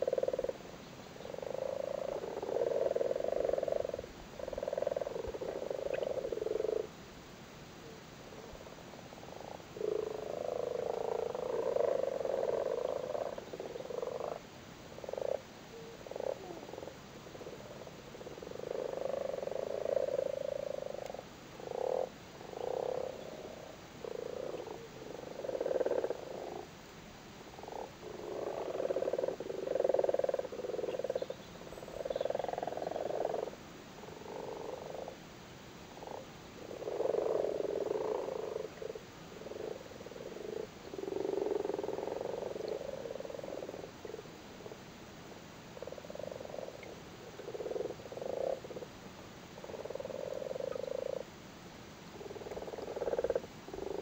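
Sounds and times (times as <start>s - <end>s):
frogs croaking in chorus: 0.0s - 7.0s, 7.8s - 35.2s, 35.8s - 44.8s, 45.6s - 51.3s, 52.1s - 54.0s.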